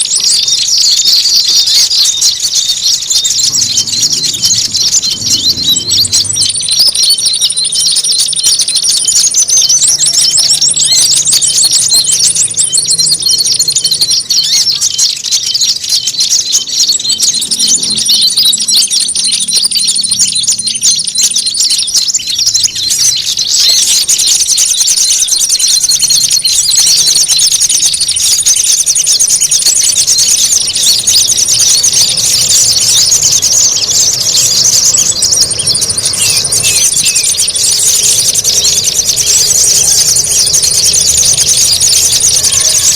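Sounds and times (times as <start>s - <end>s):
high bird trills: 0.0s - 42.9s
songbirds chattering: 0.0s - 42.9s.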